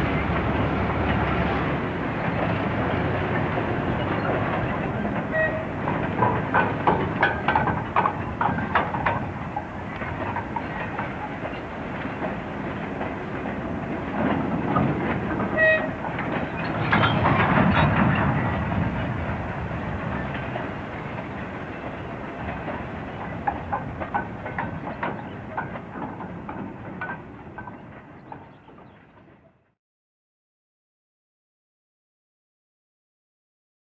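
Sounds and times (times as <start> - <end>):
diesel locomotive and wagons rumbling: 0.0 - 29.8
wheels clicking over rail joints: 0.3 - 29.5.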